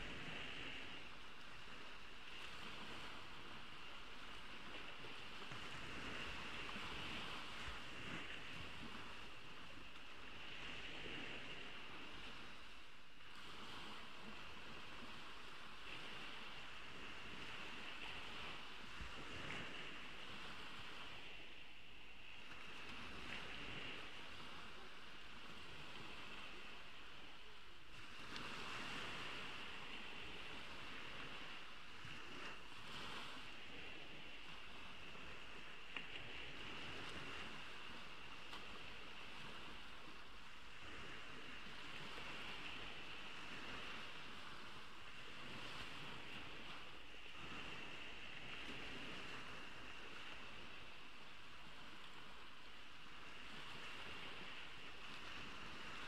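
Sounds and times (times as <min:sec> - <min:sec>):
ocean waves on beach: 0:00.0 - 0:56.0.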